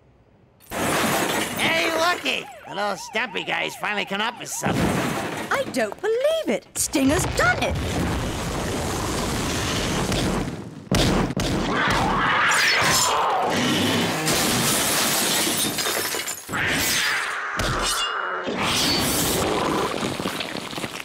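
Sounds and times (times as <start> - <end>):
cartoon buildings crashing: 0.6 - 21.0.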